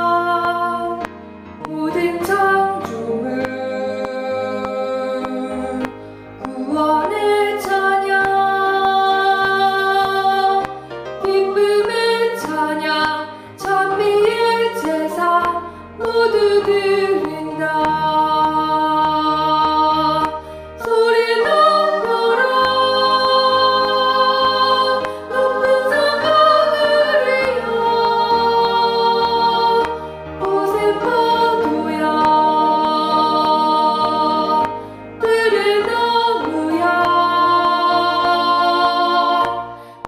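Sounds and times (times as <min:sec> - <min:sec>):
choir singing a hymn: 0:00.0 - 0:01.0, 0:01.6 - 0:40.0
piano accompaniment: 0:00.0 - 0:40.0.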